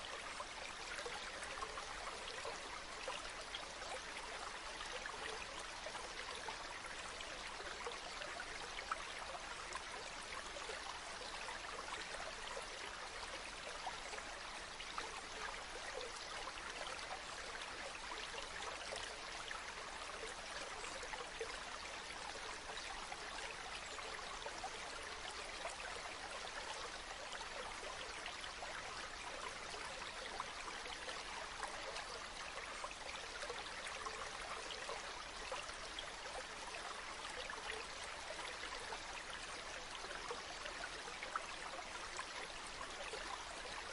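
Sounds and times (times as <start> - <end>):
stream running water: 0.0 - 43.9.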